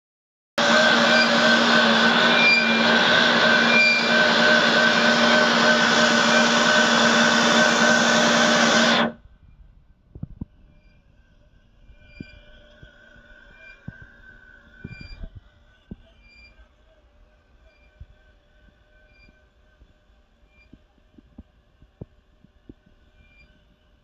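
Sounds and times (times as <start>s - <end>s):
tractor motor droning: 0.6s - 24.0s.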